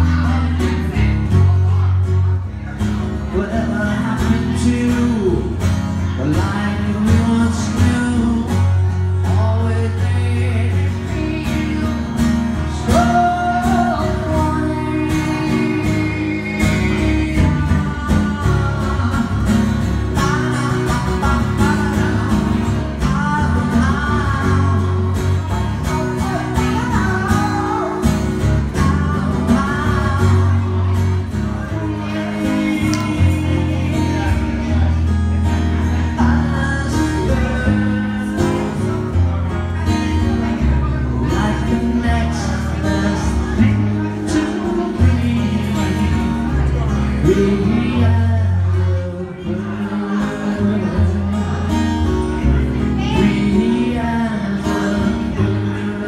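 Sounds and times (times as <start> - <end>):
person singing: 0.0 - 56.0
strummed acoustic guitar: 0.0 - 56.0.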